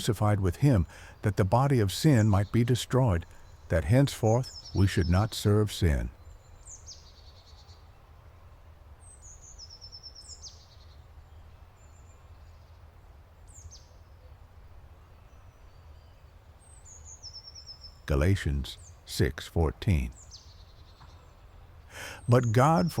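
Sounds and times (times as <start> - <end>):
songbirds calling: 0.0 - 23.0.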